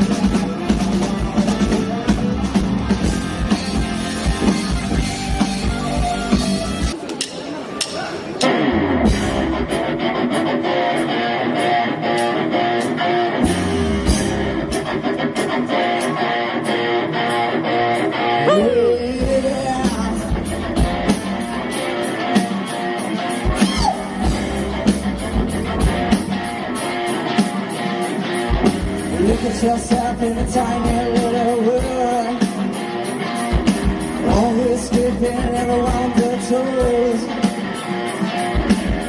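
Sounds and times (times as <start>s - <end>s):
bass guitar: 0.0s - 7.0s, 8.4s - 39.0s
drum kit steady beat: 0.0s - 18.1s, 19.1s - 39.0s
electric guitars: 0.0s - 39.0s.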